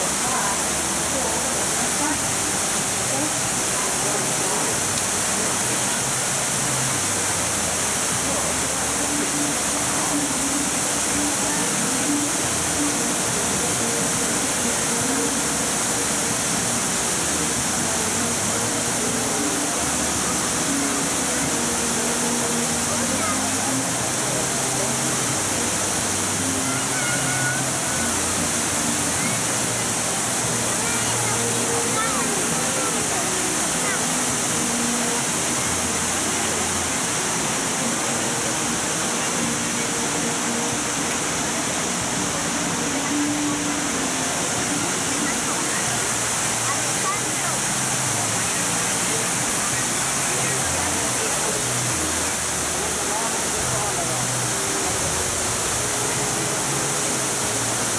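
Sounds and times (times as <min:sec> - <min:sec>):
faint voices: 0:00.0 - 0:57.9
fountain water spilling: 0:00.0 - 0:57.9
music: 0:00.0 - 0:57.9.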